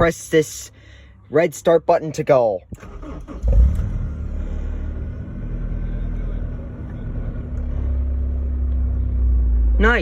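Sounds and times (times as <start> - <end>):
car engine starting and idling: 0.0 - 10.0.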